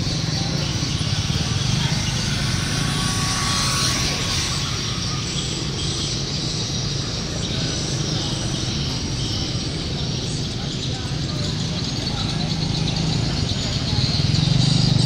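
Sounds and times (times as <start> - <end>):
low mechanical drone with hiss: 0.0 - 15.0.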